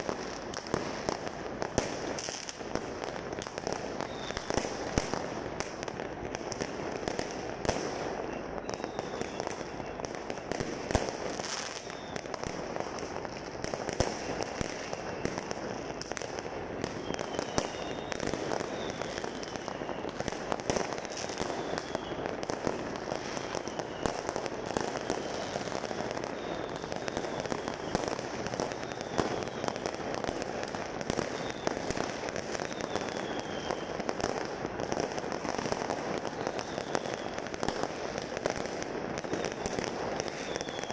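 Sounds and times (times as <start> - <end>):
firework whistle: 0.0 - 13.1, 13.7 - 40.9
distant fireworks rumble and crackle: 0.0 - 40.9.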